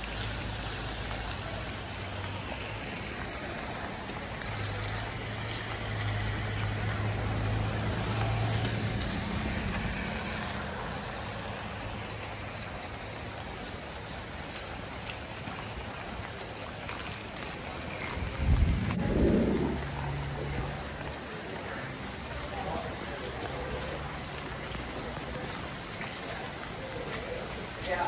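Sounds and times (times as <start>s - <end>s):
vehicle engine humming: 0.0s - 27.8s
light rain on wet street: 0.0s - 28.0s
raindrops ticking: 0.0s - 28.0s.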